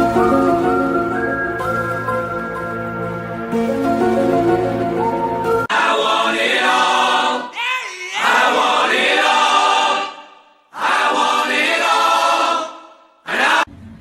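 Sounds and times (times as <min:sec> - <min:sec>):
choir singing sustained notes: 0:00.0 - 0:07.5, 0:08.2 - 0:13.7.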